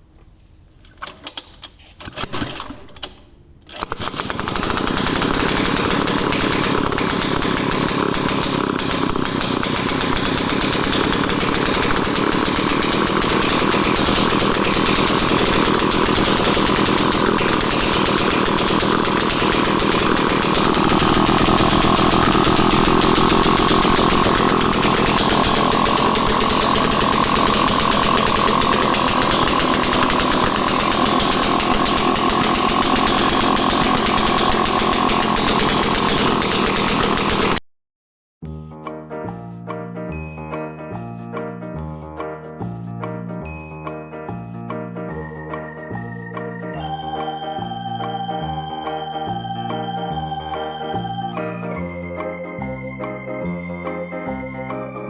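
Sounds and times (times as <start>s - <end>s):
engine starting and running: 0.9s - 37.6s, 45.0s - 55.0s.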